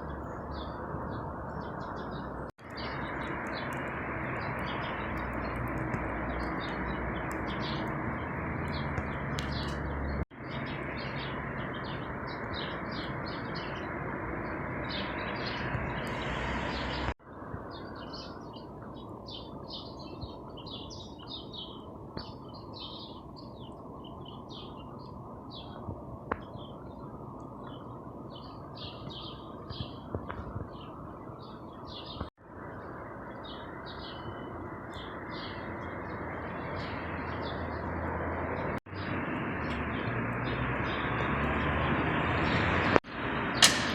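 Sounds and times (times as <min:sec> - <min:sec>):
small birds chirping: 0:00.0 - 0:43.8
city noise hum: 0:00.0 - 0:43.9.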